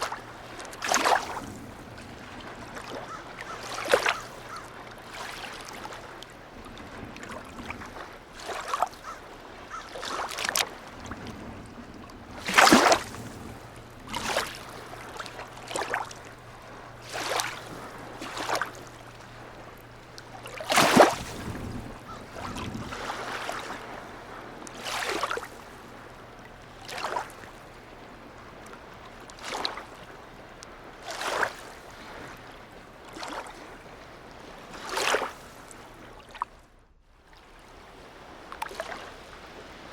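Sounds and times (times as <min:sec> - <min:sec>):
seawater lapping: 0:00.0 - 0:39.9
small water splashes: 0:00.0 - 0:39.9.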